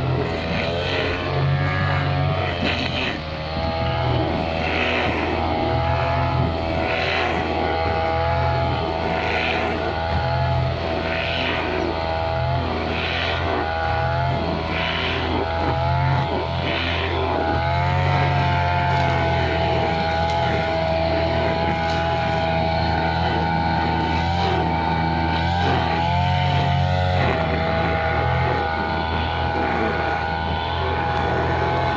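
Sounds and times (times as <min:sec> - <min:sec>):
brushcutter engine running: 0:00.0 - 0:31.9.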